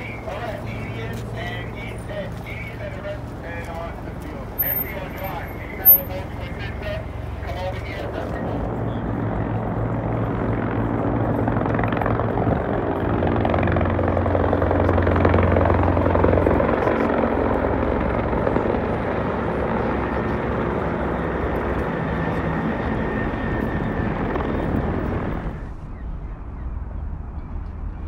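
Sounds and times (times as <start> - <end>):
helicopter rotor beating: 0.0 - 25.8.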